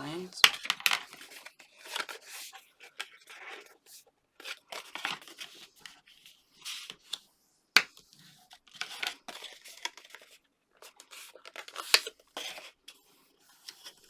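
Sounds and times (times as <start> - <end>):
card stock folding and crackling: 0.0 - 14.0.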